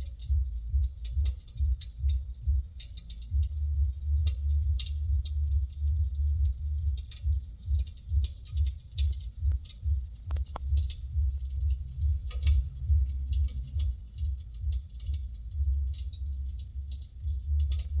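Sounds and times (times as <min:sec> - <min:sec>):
low uneven rumble: 0:00.0 - 0:18.0
wood fire crackling: 0:00.0 - 0:18.0.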